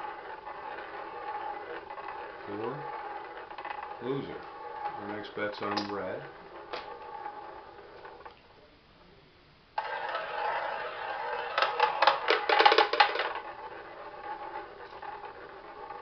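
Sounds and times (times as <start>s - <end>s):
roulette ball rolling whir: 0.0s - 8.6s, 9.6s - 16.0s
roulette ball clattering clicks: 0.1s - 8.4s, 9.8s - 16.0s.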